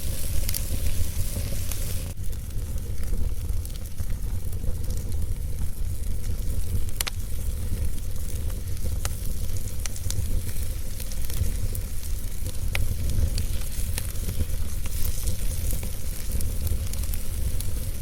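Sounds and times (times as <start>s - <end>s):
constant low rumble: 0.0s - 18.0s
fire crackling and popping: 0.0s - 18.0s.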